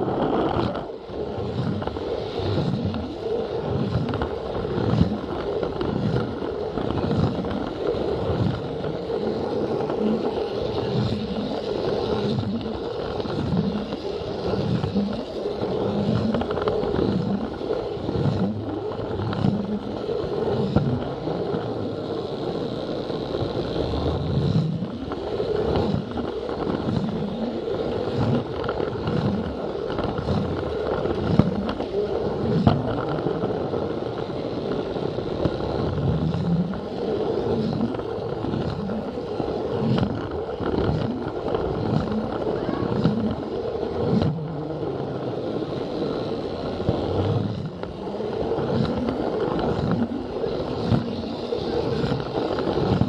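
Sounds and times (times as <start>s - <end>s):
wheels clattering on track: 0.0s - 53.0s
toy train motor whine: 1.4s - 53.0s.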